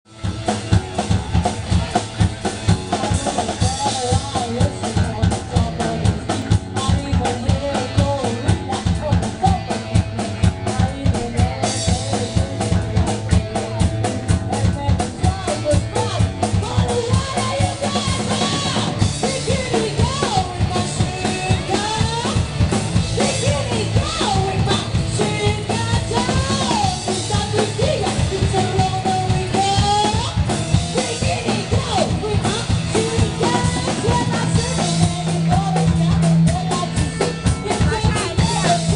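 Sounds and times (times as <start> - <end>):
live rock band: 0.0 - 38.9
drum kit beat: 0.1 - 38.9.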